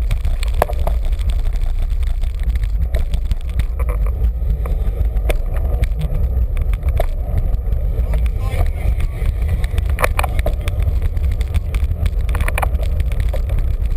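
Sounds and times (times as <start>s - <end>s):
bike clicks and rattles: 0.0s - 13.9s
wind rumble on microphone: 0.0s - 13.9s.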